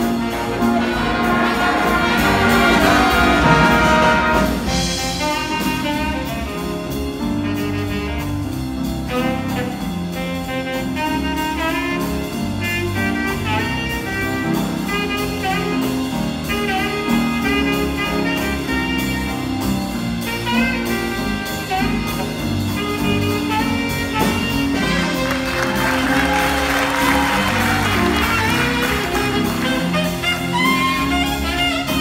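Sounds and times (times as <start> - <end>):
jazz big band playing: 0.0 - 32.0.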